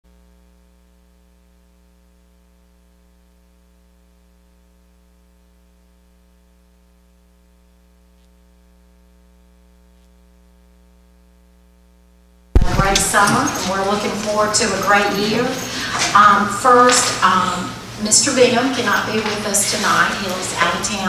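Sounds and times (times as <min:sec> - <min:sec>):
electrical mains hum: 0:00.1 - 0:21.0.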